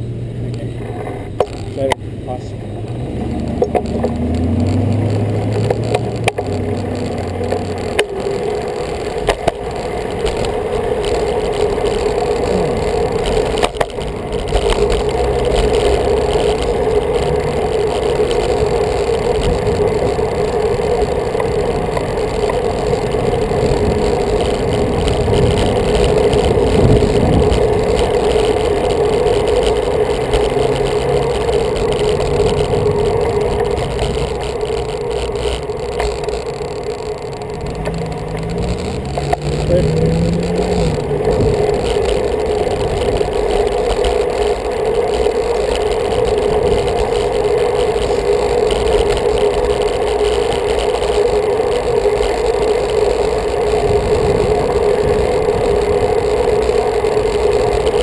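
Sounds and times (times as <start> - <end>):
car engines running: 0.0 - 58.0
wind and road noise: 0.0 - 58.0
sharp clicks and knocks: 1.0 - 2.0, 2.9 - 58.0.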